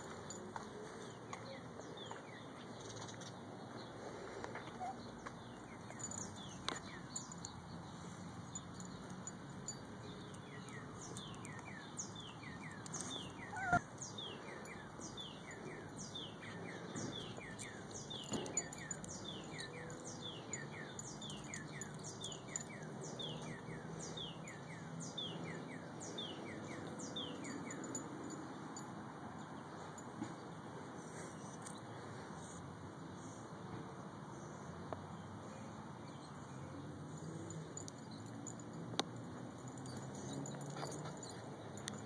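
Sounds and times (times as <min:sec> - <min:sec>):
birds chirping: 0:00.0 - 0:32.6, 0:34.3 - 0:42.0.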